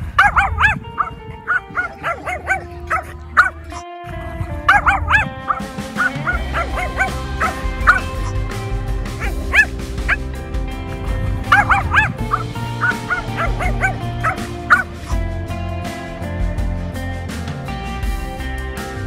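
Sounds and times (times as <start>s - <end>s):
small dogs barking: 0.0s - 16.4s
background music: 0.0s - 19.0s.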